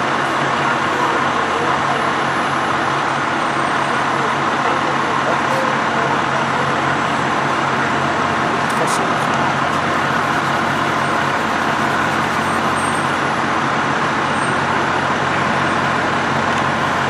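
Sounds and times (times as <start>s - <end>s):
diesel engines idling: 0.0s - 17.0s
pump noise: 0.0s - 17.0s.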